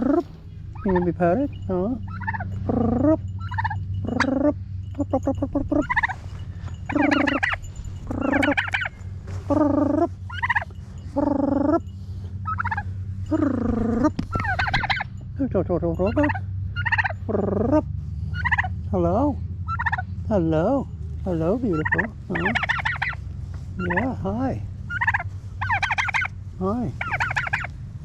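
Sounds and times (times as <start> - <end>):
turkey calling: 0.0 - 15.3, 15.9 - 18.8, 19.6 - 20.2, 21.0 - 27.8
steady low hum: 0.0 - 28.0.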